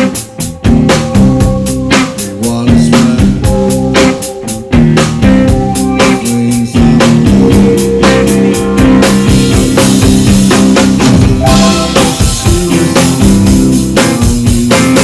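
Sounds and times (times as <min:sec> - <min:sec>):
drum kit beat: 0:00.0 - 0:15.0
electric cello bass notes: 0:00.0 - 0:15.0
live rock band playing: 0:00.0 - 0:15.0.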